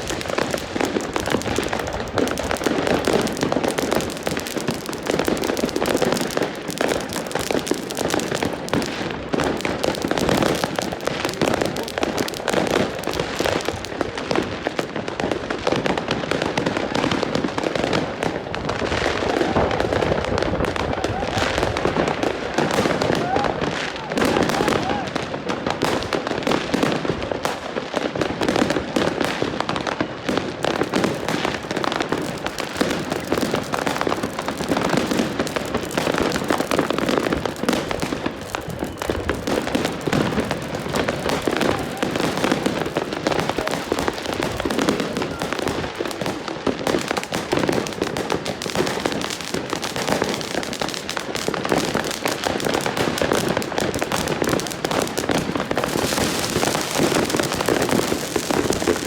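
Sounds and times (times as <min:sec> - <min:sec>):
fireworks and firecrackers banging: 0:00.0 - 0:59.0.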